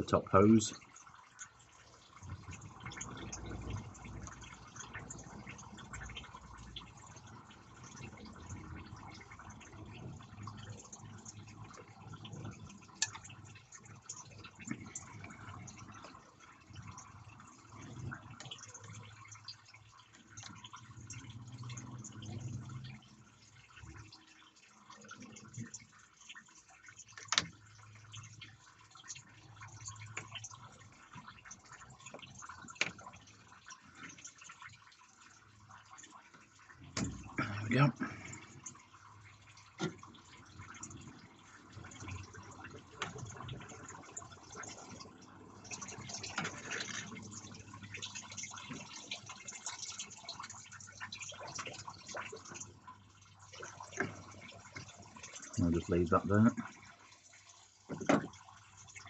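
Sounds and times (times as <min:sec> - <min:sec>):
coolant dripping and trickling: 0:00.0 - 0:59.0
small ticks and crackles: 0:00.0 - 0:59.0.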